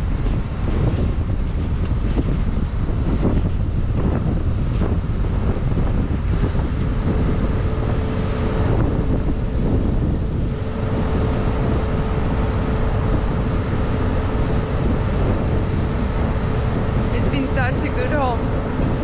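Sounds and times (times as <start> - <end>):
faint machine hum: 0.0 - 19.0
wind buffeting microphone: 0.0 - 19.0.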